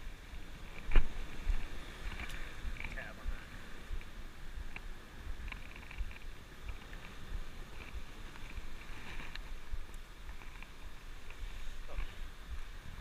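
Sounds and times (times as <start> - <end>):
sea waves on rocky shore: 0.0 - 13.0
wind buffeting microphone: 0.0 - 13.0.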